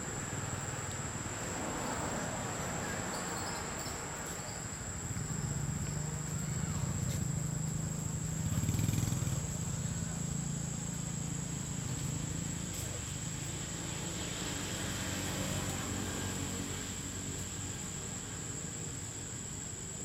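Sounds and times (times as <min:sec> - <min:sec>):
vehicle engine hum: 0:00.0 - 0:19.6
high insect drone: 0:00.0 - 0:20.0.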